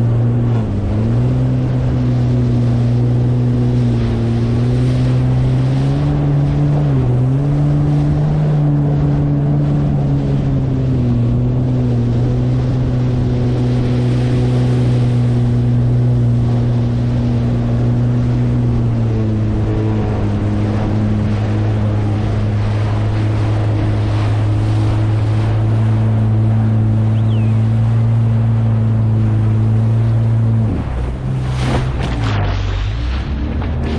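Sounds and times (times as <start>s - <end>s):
jet ski engine running: 0.0s - 33.9s.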